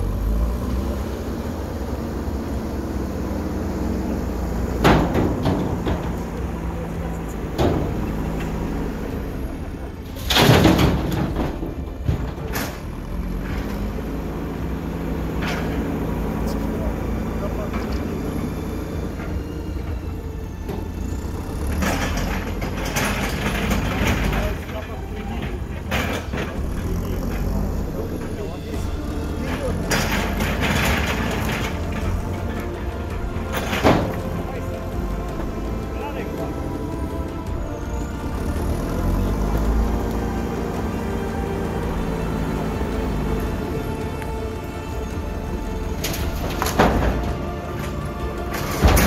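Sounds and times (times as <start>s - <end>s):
diesel engine running: 0.0s - 49.0s
loader bucket scraping rubble: 0.0s - 49.0s
sharp knocks and clanks: 2.2s - 49.0s.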